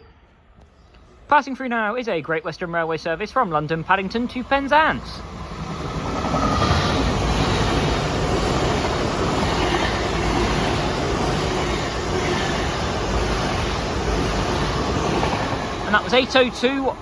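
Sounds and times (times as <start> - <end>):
train passing: 0.3 - 17.0.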